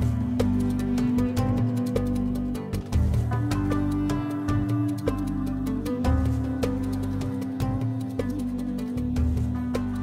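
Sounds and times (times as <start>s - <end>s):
instrumental music with light beat: 0.0s - 10.0s.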